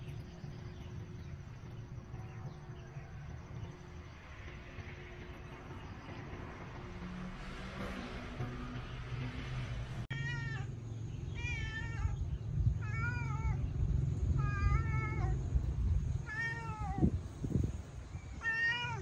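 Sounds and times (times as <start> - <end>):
low rumble: 0.0 - 18.4.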